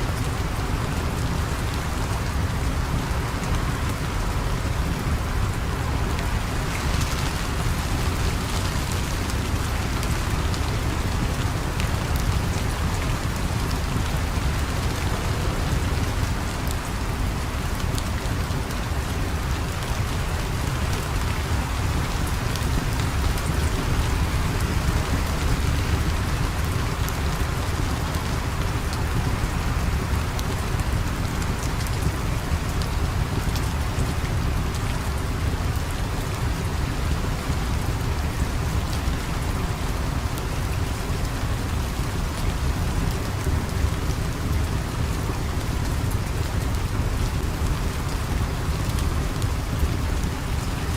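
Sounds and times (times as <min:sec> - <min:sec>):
heavy rain falling: 0:00.0 - 0:50.9
sharp ticks of raindrops: 0:00.0 - 0:50.9.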